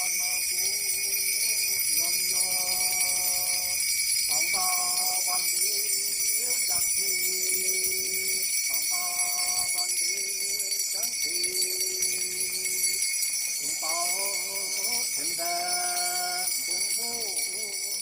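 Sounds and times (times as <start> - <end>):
bells jingling: 0.0 - 18.0.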